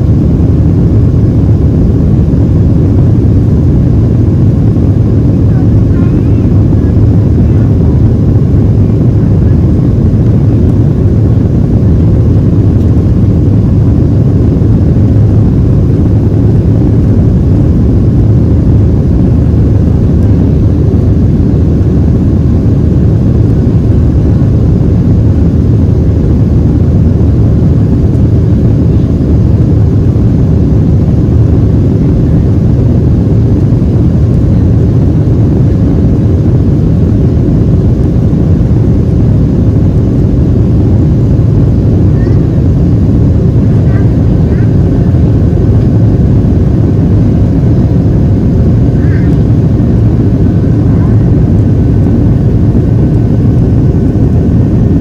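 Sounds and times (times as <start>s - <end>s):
jet engines rumbling: 0.0s - 55.0s
rushing air: 0.0s - 55.0s.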